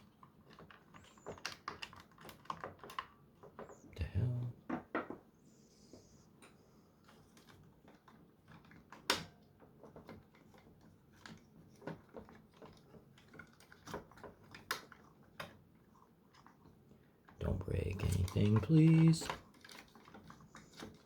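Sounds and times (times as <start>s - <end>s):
plastic parts clicking and knocking: 0.0s - 5.3s, 7.1s - 16.7s, 17.4s - 21.0s.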